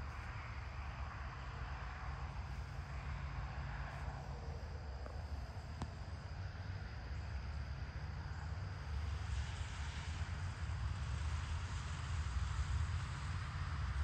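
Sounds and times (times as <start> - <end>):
continuous low rumble: 0.0 - 14.0
crickets trilling: 0.0 - 14.0.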